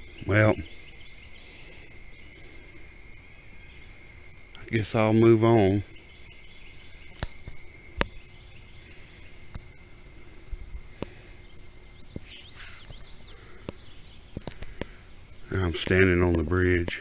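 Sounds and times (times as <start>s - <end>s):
birds chirping: 0.0s - 17.0s
insect chorus drone: 0.0s - 17.0s.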